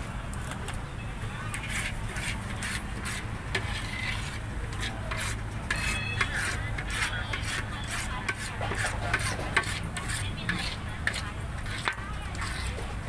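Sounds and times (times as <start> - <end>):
metal ladle scraping brass pan: 1.5 - 13.0.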